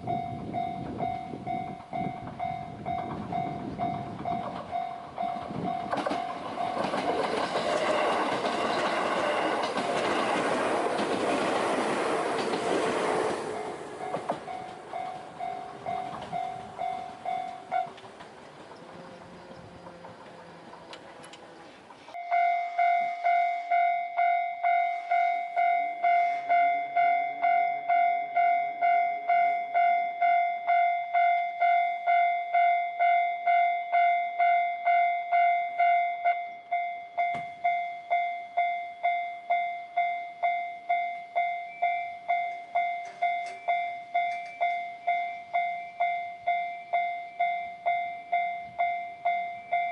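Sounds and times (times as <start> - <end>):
level-crossing warning bell ringing: 0.0 - 49.9
train rumbling past: 0.0 - 49.9.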